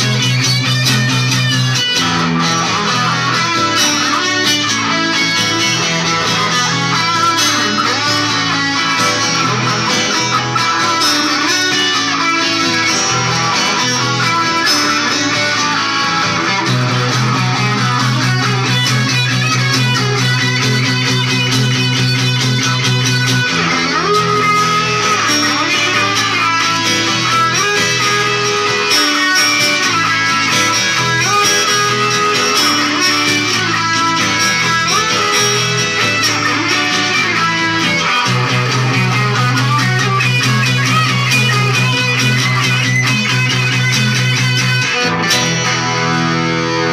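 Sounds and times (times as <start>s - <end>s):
electric guitar through amplifier: 0.0s - 46.9s.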